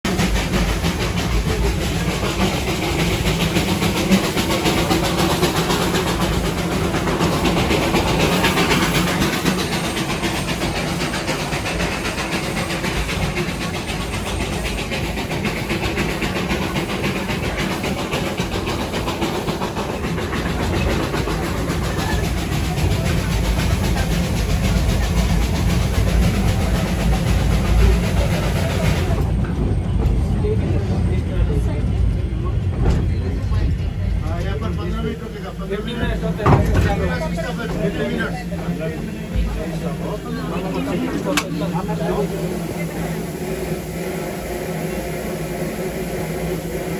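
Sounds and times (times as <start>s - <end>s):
steam hissing: 0.1s - 31.0s, 32.7s - 46.9s
train carriages rattling on track: 0.1s - 46.9s.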